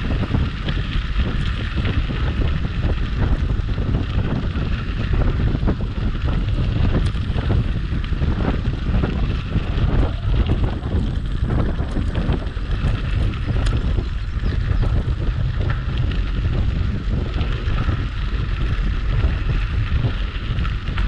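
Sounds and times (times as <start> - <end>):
bicycle tyres crackling on trail: 0.0 - 21.0
wind buffeting microphone: 0.0 - 21.0.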